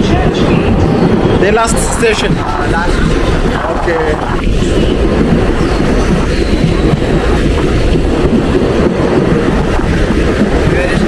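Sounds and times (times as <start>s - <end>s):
train carriage rumbling on rails: 0.0s - 11.0s.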